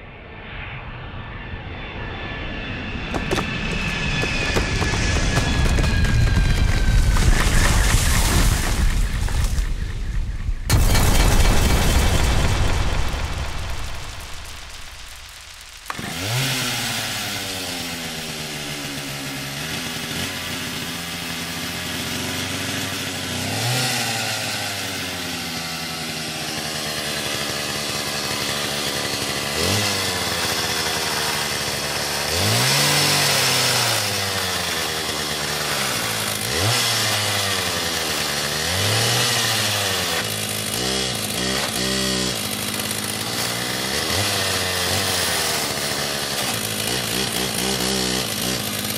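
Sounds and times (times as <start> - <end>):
chainsaw engine revving: 3.1 - 9.9, 10.7 - 48.9.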